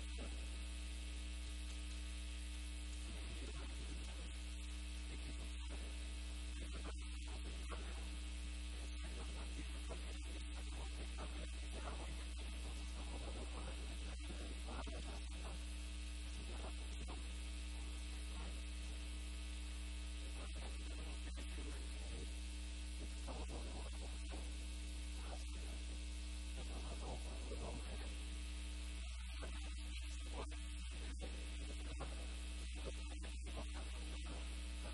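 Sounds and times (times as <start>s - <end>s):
electrical mains hum: 0.0s - 34.9s.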